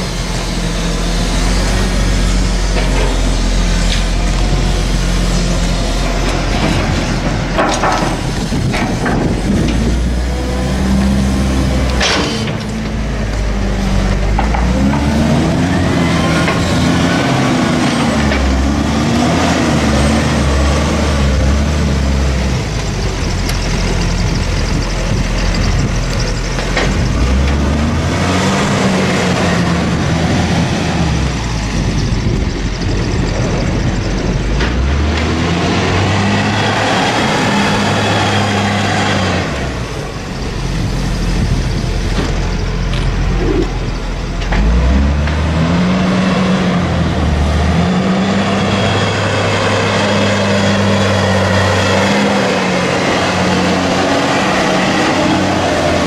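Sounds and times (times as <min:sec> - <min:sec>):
wheel loader diesel engine revving: 0:00.0 - 0:56.0.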